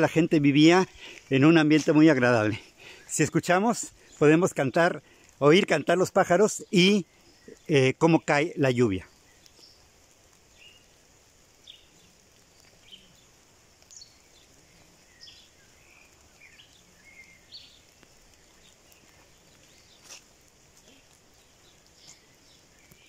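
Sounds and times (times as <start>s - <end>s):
birds chirping faintly: 0.0s - 23.0s
light rain hiss: 0.0s - 23.0s.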